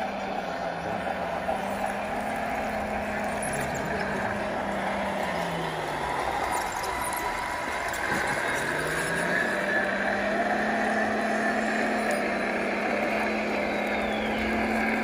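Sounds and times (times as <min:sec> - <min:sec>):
model vehicle motor drone: 0:00.0 - 0:15.0.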